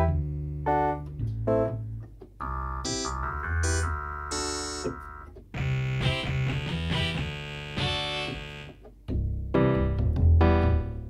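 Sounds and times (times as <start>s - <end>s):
electronic keyboard playing chords: 0.0s - 9.0s.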